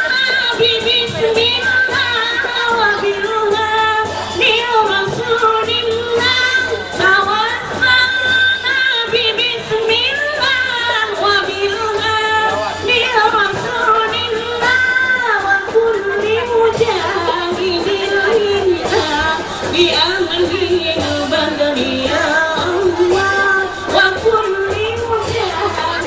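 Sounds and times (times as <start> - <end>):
musical accompaniment: 0.0 - 26.0
woman singing: 0.0 - 26.0.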